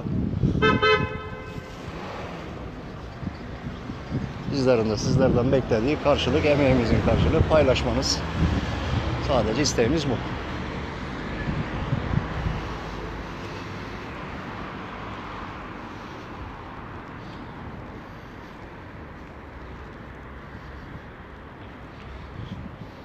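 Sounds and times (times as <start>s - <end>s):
distant city traffic: 0.0s - 23.0s.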